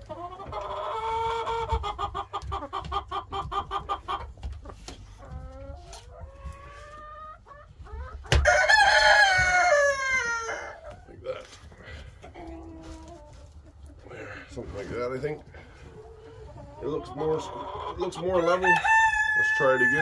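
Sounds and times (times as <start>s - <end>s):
chickens calling: 0.0s - 20.0s.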